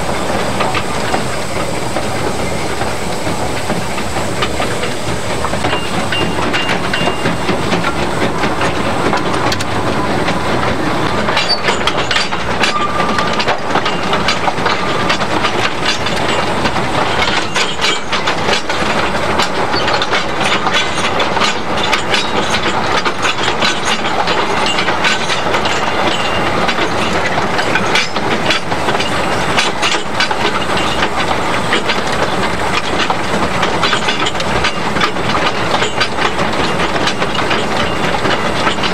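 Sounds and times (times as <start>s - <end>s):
steam locomotive engine: 0.0s - 38.9s
wheels clicking on rail joints: 0.0s - 38.9s.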